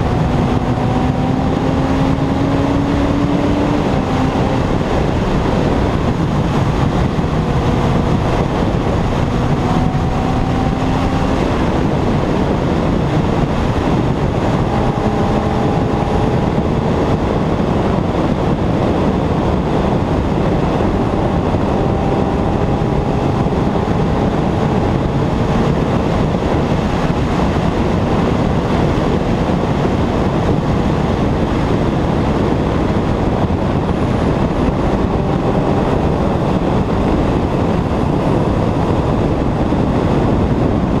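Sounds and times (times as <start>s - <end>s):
motorcycle engine running: 0.0s - 41.0s
wind rushing on helmet: 0.0s - 41.0s.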